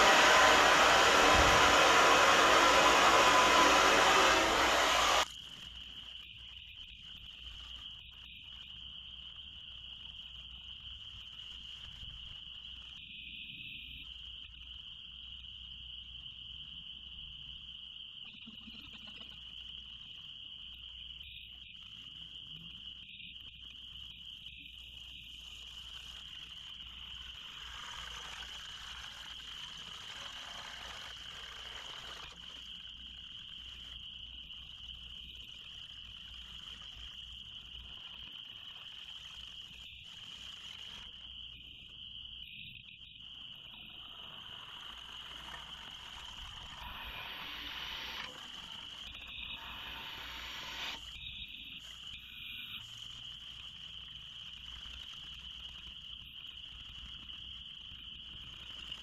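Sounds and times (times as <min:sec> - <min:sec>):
frogs and insects chorus: 0:00.0 - 0:59.0.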